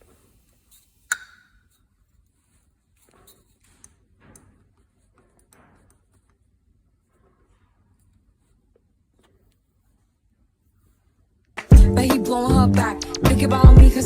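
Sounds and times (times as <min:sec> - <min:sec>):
rustling and scraping handling: 0:00.0 - 0:11.4.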